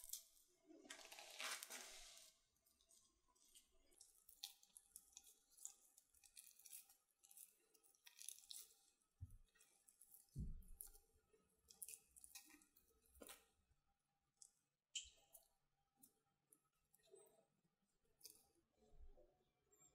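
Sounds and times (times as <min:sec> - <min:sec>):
wet squishing of sticky batter: 0:00.0 - 0:19.9.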